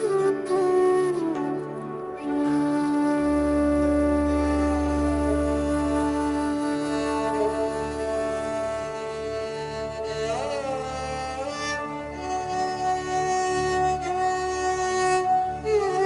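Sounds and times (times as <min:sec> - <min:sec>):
slow ambient music: 0:00.0 - 0:16.0.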